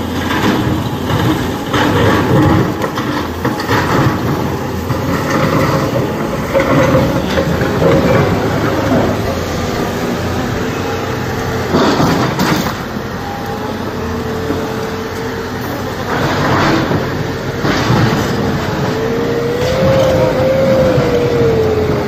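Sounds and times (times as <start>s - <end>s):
diesel truck engine running: 0.0s - 22.0s
truck load rattling and knocking: 0.0s - 22.0s.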